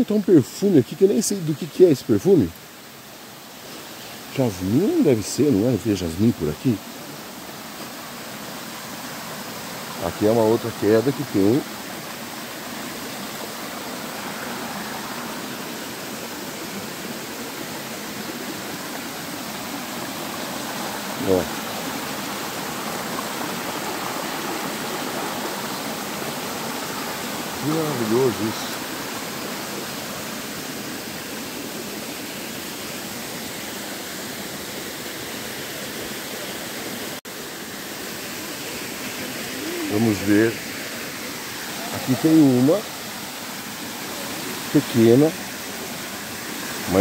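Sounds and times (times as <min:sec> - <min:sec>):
waterfall rushing over rocks: 0:00.0 - 0:47.0.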